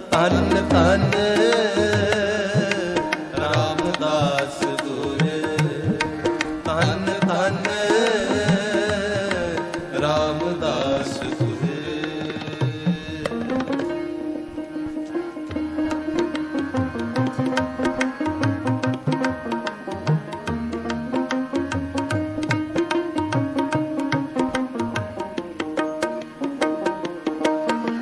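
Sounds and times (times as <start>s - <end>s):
tabla drumming: 0.0s - 28.0s.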